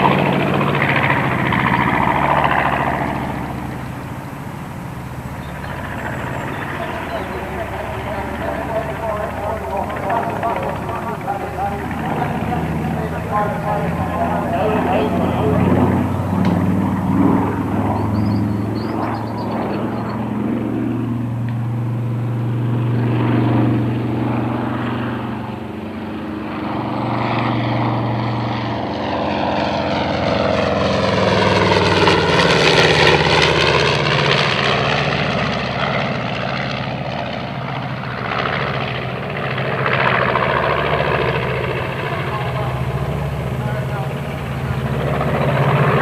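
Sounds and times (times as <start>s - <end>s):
propeller plane flying past: 0.0s - 46.0s.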